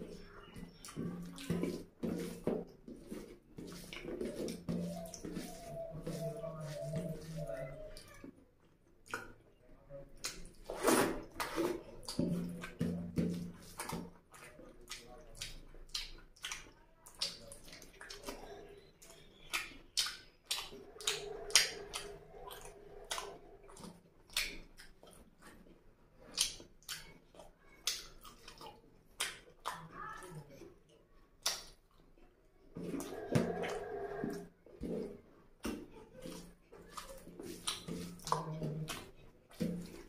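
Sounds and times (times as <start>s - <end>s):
fingers squishing food: 0.0s - 40.0s
person chewing wetly: 0.0s - 40.0s.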